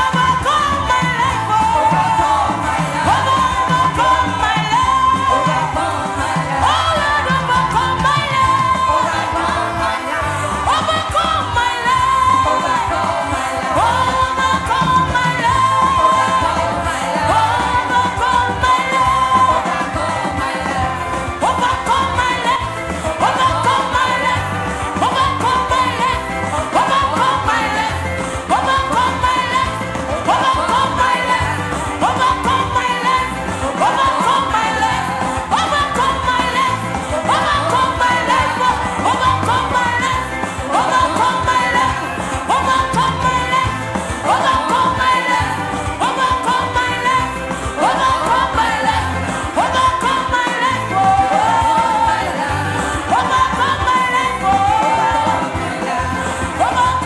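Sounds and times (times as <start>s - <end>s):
instrumental accompaniment: 0.0s - 57.0s
person singing gospel melody: 0.0s - 57.0s.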